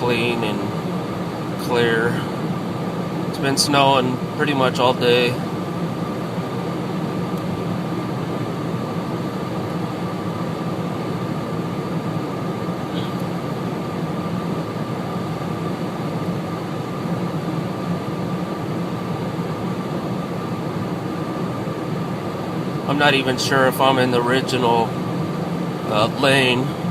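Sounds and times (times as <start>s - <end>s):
engine and tyre drone: 0.0s - 26.9s
low hum: 0.0s - 26.9s.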